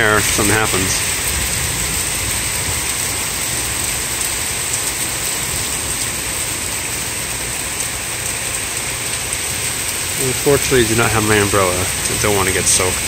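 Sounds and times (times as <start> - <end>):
heavy rain on pavement: 0.0 - 13.0.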